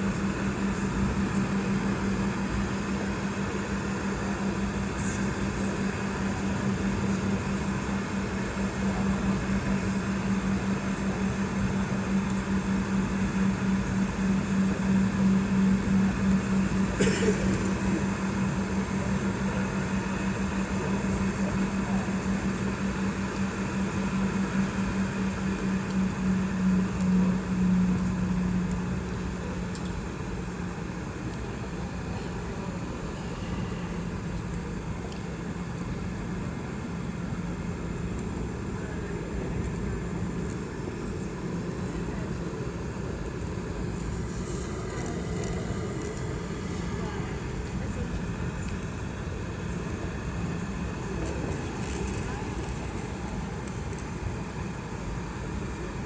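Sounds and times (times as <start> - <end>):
aircraft cabin engine drone: 0.0 - 56.0.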